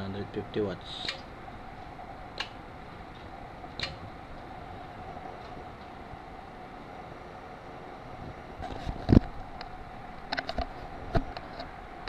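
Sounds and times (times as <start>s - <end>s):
radio equipment hum and hiss: 0.0s - 12.0s.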